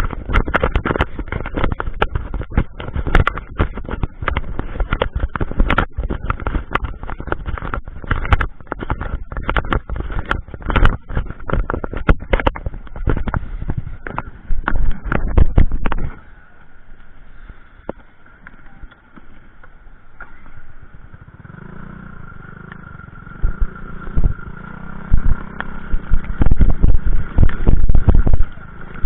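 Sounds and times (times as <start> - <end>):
sharp crackles: 0.0 - 29.0.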